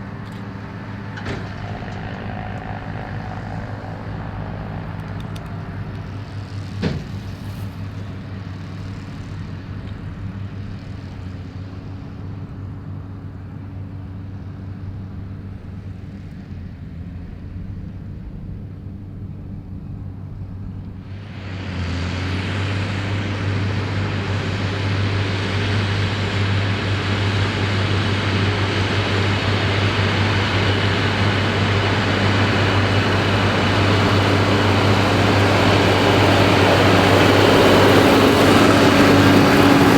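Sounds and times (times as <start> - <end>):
tractor engine hum: 0.0 - 39.9.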